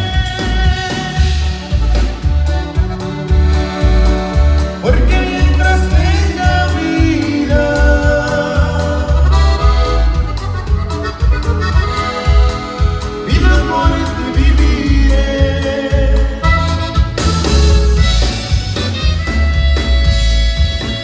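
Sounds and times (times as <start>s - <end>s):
saxophone melody: 0.0s - 6.6s, 7.6s - 14.2s, 16.1s - 21.0s
button accordion: 0.0s - 21.0s
drums: 0.0s - 21.0s
electric bass: 0.0s - 21.0s.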